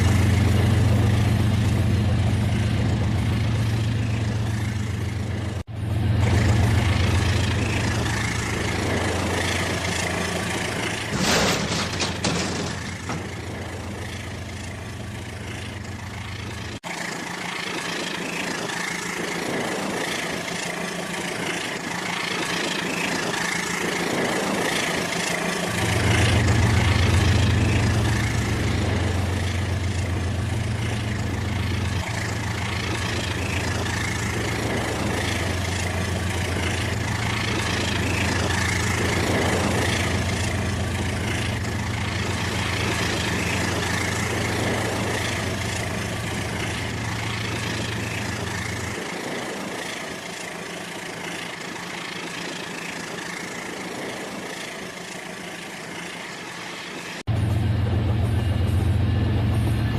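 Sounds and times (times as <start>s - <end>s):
track clatter: 0.0s - 59.9s.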